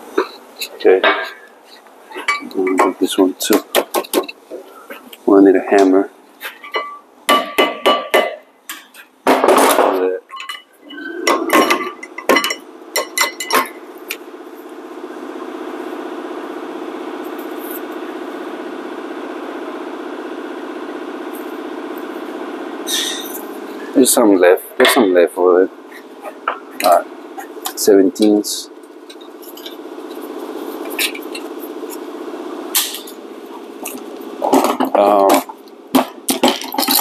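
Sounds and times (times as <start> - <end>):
steady mechanical hum: 0.0 - 37.0.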